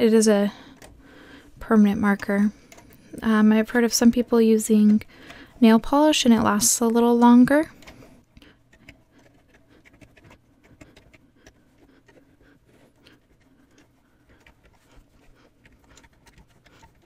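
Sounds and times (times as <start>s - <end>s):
yarn rustling on pegs: 0.5s - 17.0s.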